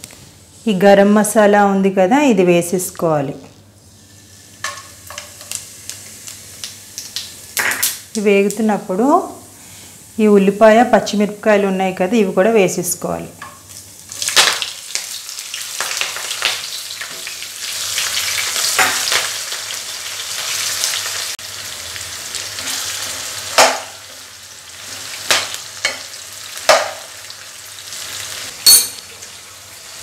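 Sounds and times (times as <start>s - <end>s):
onions sizzling in hot oil: 3.6s - 12.0s, 13.4s - 30.0s.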